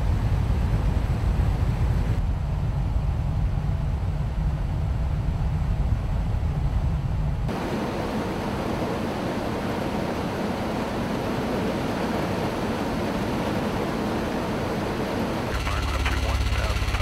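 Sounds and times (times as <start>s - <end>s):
wind and rotor noise: 0.0s - 17.0s.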